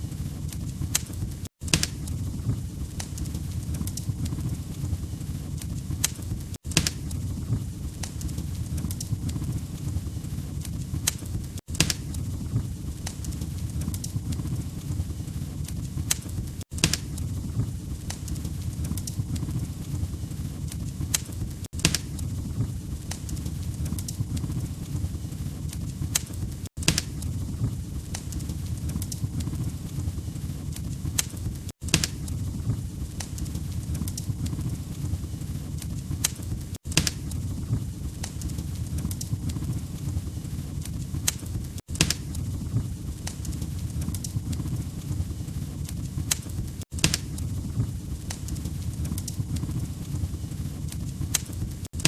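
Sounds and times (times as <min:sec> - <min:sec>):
burning logs rumbling: 0:00.0 - 0:52.0
fire popping and snapping: 0:00.0 - 0:52.0.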